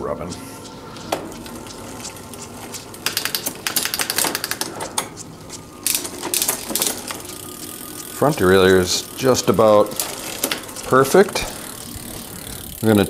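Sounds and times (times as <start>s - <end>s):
bicycle freewheel ratcheting: 0.9s - 13.0s.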